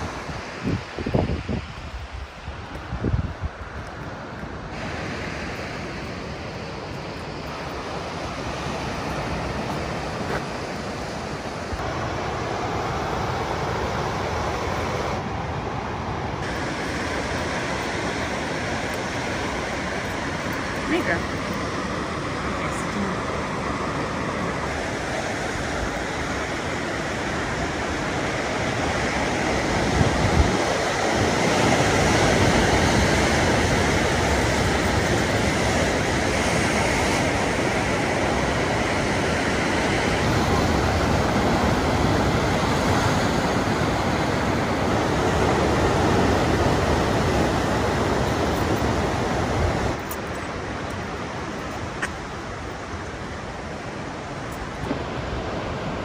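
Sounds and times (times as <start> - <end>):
ocean surf on rocky shore: 0.0 - 56.0.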